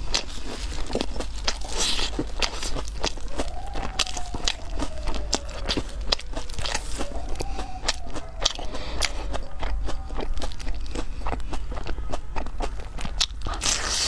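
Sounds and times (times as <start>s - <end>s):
chewing crunchy fried food: 0.0s - 14.0s
wet mouth clicks: 0.0s - 14.0s.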